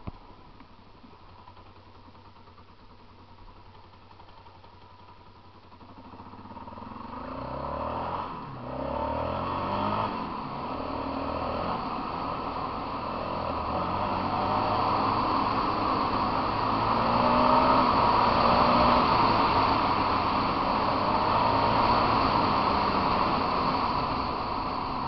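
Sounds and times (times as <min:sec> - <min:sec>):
motorcycle engine revving: 0:01.3 - 0:25.0.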